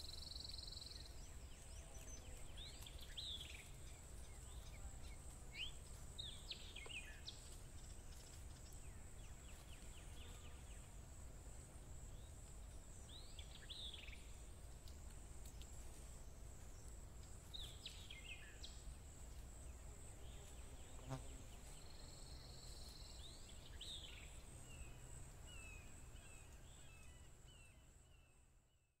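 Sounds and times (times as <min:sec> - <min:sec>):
insect drone: 0:00.0 - 0:28.8.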